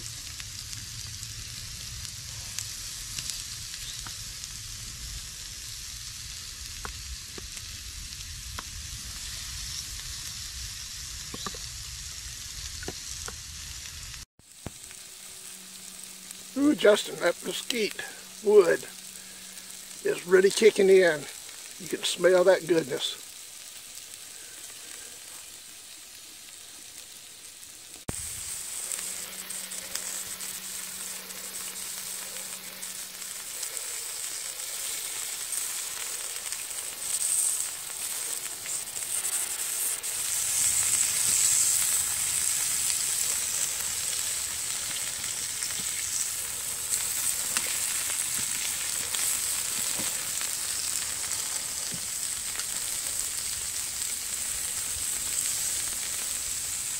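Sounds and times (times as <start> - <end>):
chicken sizzling on a grill: 0.0 - 56.9.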